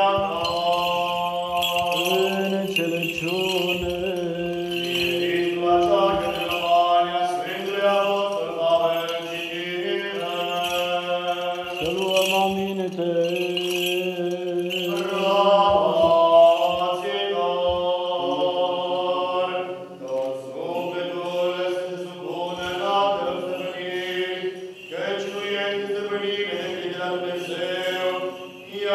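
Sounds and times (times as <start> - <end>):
liturgical chant singing: 0.0 - 28.9.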